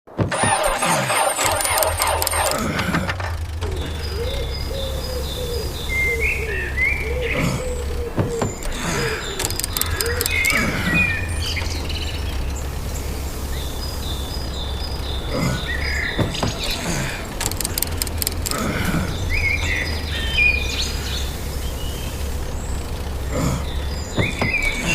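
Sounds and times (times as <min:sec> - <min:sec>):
car engine failing to start: 0:00.1 - 0:24.9
birds chirping: 0:03.3 - 0:24.9.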